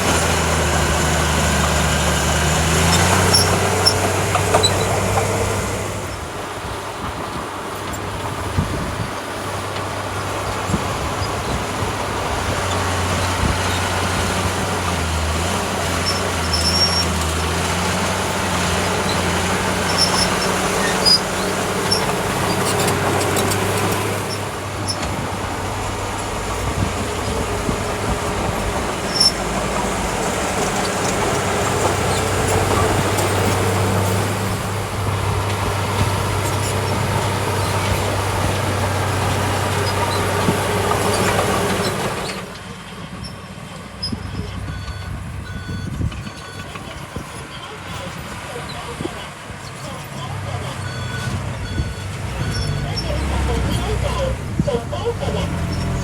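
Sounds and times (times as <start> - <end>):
bulldozer diesel engine hum: 0.0 - 56.0
steel tracks clattering and squealing: 0.0 - 56.0.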